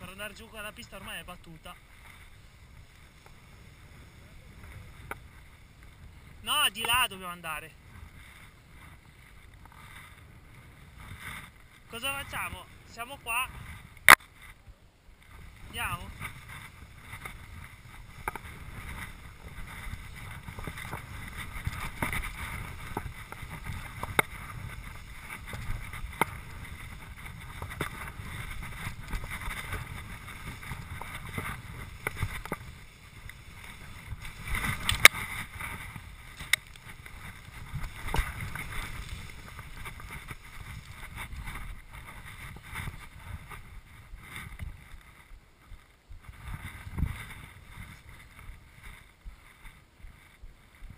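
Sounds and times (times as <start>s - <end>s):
skis swishing through snow: 0.0s - 50.9s
wind rumbling on microphone: 0.0s - 50.9s.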